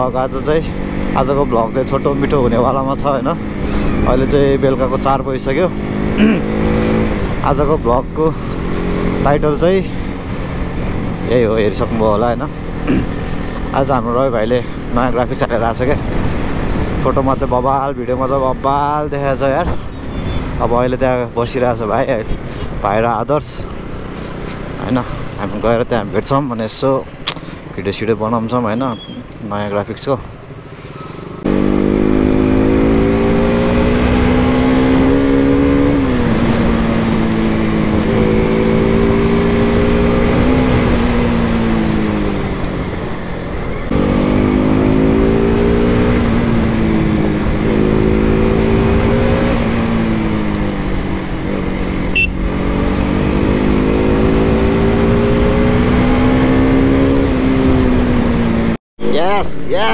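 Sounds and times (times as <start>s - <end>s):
motorcycle engine accelerating: 0.0s - 20.6s, 30.6s - 58.8s.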